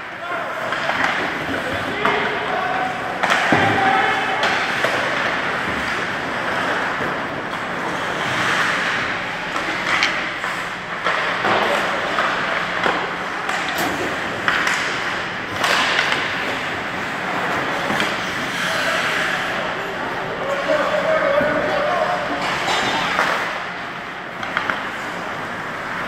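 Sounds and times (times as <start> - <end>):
sticks clacking on puck: 0.6 - 19.7, 20.6 - 26.0
skates scraping on ice: 0.6 - 26.0.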